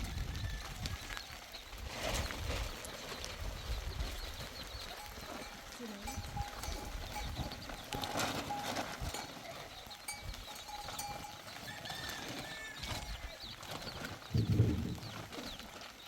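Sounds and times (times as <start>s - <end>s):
farm animals: 0.0s - 16.0s.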